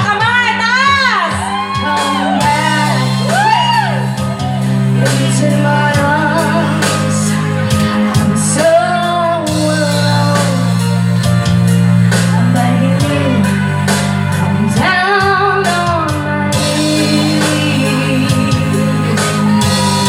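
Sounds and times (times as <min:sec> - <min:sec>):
rock band playing ballad: 0:00.0 - 0:20.0.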